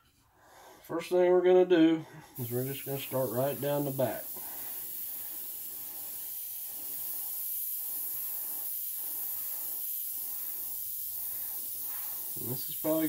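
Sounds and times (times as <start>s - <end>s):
airbrush hissing: 2.2s - 13.0s.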